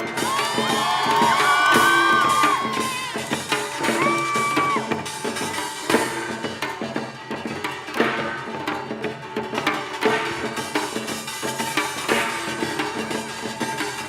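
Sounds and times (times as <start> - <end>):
drums and gongs ensemble: 0.0 - 14.0.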